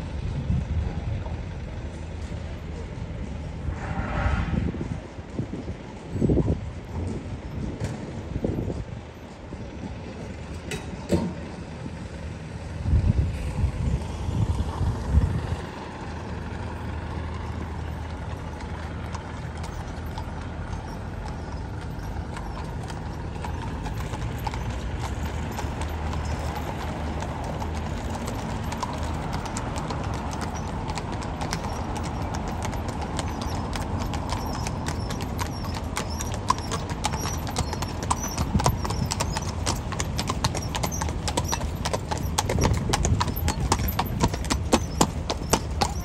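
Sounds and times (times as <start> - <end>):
low engine hum: 0.0 - 46.0
hooves clip-clopping on cobblestones: 5.0 - 12.7, 13.7 - 46.0.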